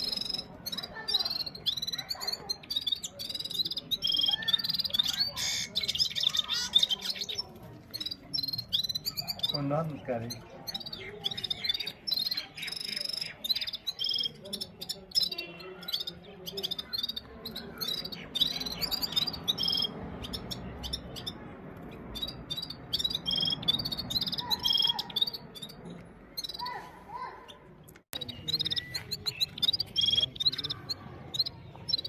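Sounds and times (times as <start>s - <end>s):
bird twittering trills: 0.0s - 27.6s, 28.2s - 32.0s.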